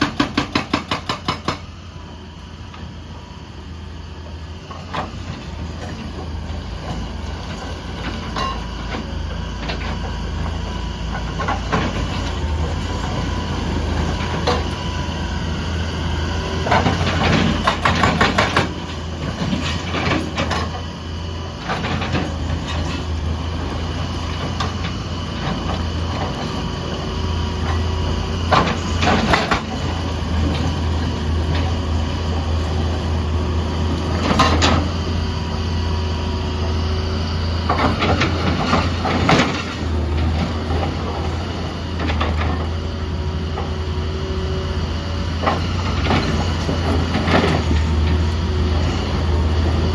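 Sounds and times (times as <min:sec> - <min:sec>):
diesel engine rumbling: 0:00.0 - 0:49.9.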